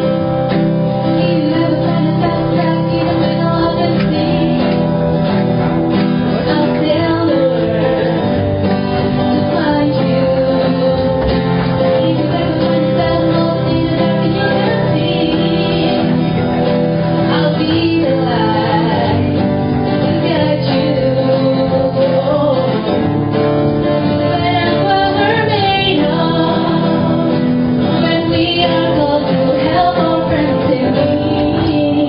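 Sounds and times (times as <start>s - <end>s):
acoustic guitar: 0.0s - 32.0s
group singing together: 1.1s - 5.3s, 9.0s - 23.2s, 24.0s - 32.0s.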